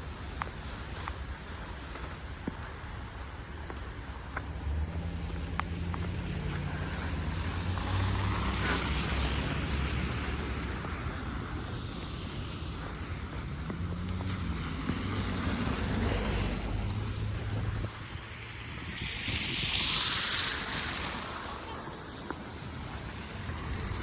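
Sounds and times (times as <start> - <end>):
wind blowing in gusts: 0.0 - 24.0
wind buffeting microphone: 0.0 - 24.0.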